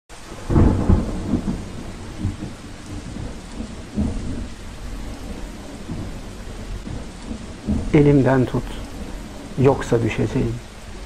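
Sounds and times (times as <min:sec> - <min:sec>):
rain falling: 0:00.1 - 0:11.0
thunder rumbling: 0:00.1 - 0:11.0.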